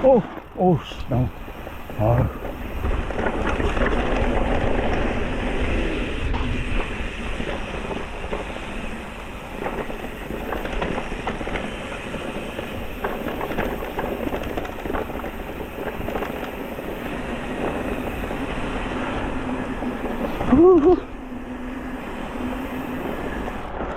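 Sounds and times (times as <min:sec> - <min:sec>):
wind rumbling on microphone: 0:00.2 - 0:23.9
bike rattling over bumps: 0:01.3 - 0:23.9.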